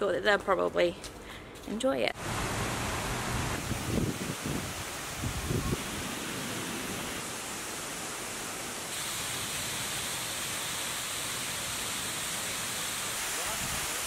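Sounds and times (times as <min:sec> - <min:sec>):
waterfall rushing hiss: 0:02.2 - 0:14.0.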